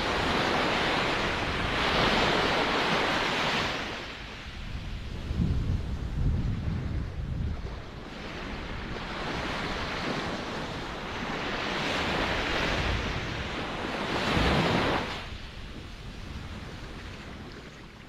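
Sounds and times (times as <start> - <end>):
waves breaking: 0.0 - 18.0.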